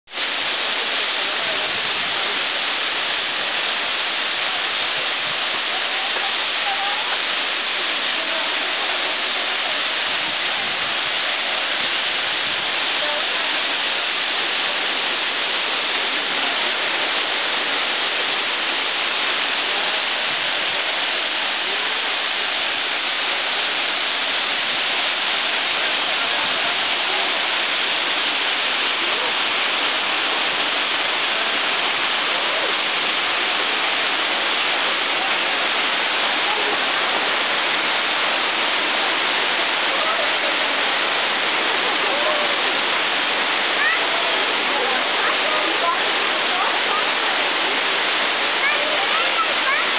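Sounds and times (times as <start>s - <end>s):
waterfall rushing: 0.1s - 49.9s.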